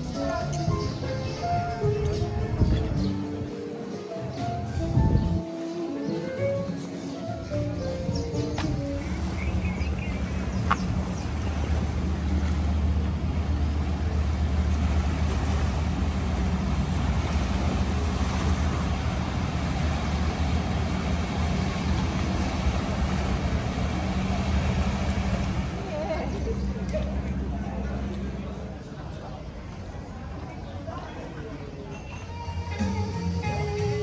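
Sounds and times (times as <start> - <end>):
large engine humming: 0.0 - 30.4.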